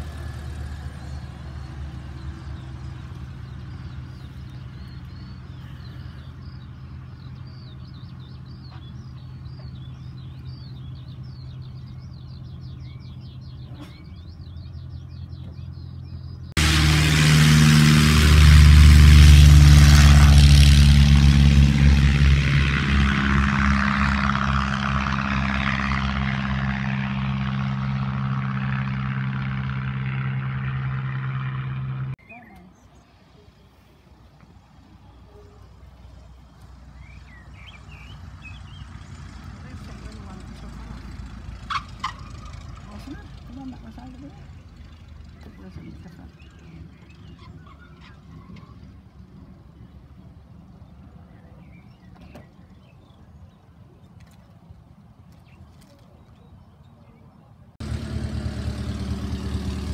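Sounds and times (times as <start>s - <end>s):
propeller plane taking off: 0.0s - 32.2s, 32.8s - 56.4s, 57.7s - 59.9s
distant propeller plane engine: 0.0s - 59.9s.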